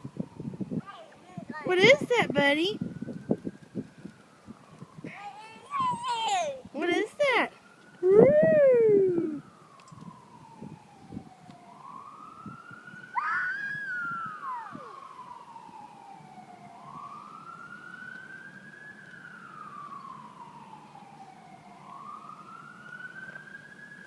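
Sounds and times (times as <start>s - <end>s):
emergency siren wailing: 0.0s - 0.8s, 1.4s - 24.0s
howl imitating siren: 0.0s - 0.8s, 1.4s - 24.0s.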